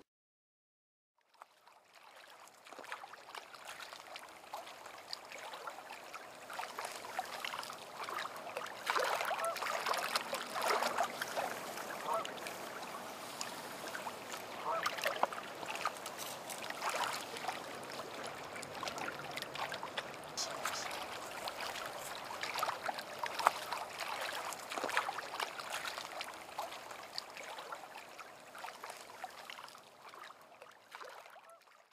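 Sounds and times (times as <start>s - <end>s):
water trickling and lapping: 1.2s - 31.9s.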